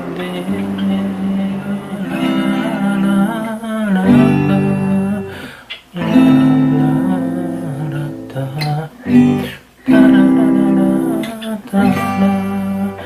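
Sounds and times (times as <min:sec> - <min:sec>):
acoustic guitar fingerpicked chords: 0:00.0 - 0:13.0.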